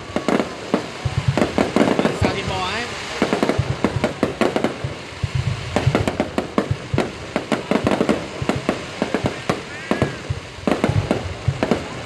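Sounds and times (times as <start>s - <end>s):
deep firework booms: 0.0s - 12.0s
fireworks bangs and crackles: 0.0s - 12.0s.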